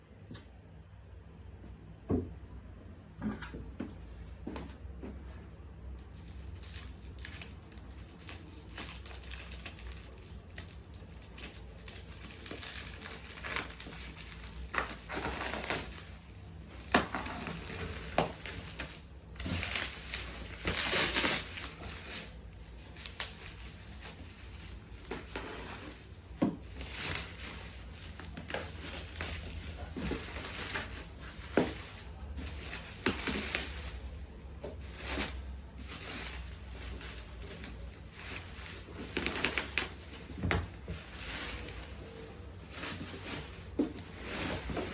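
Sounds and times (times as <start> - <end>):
cardboard and plastic rustling: 5.9 - 44.9.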